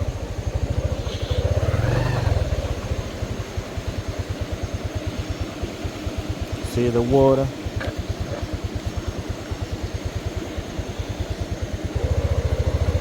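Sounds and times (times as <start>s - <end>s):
small motorcycle engine puttering: 0.0s - 6.1s, 6.9s - 13.0s.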